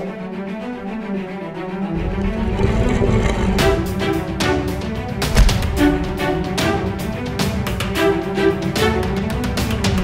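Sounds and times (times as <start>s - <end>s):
dark bowed strings: 0.0s - 10.0s.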